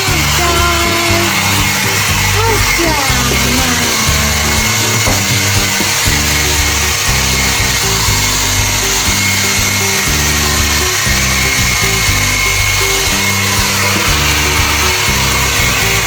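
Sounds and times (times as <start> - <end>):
background music with bass: 0.0 - 16.0
hair dryer blowing: 0.0 - 16.0.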